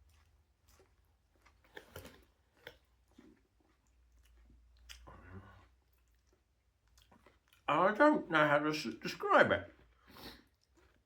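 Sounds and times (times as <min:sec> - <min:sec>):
chewing sandwich: 0:00.0 - 0:07.8, 0:08.8 - 0:11.0.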